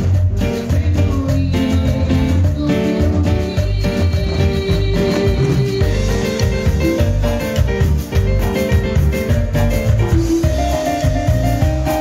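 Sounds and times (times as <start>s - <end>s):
electric guitar: 0.0s - 12.0s
keyboard: 0.0s - 12.0s
live band playing latin dance music: 0.0s - 12.0s.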